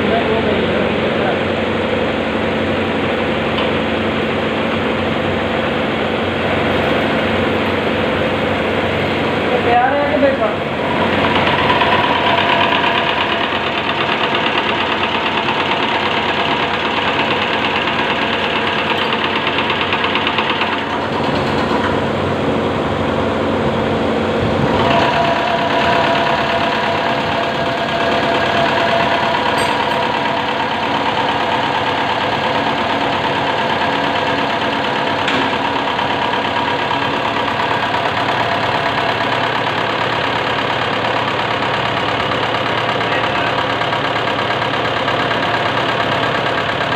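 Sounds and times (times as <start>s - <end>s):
fuel injection pump running: 0.0s - 46.9s.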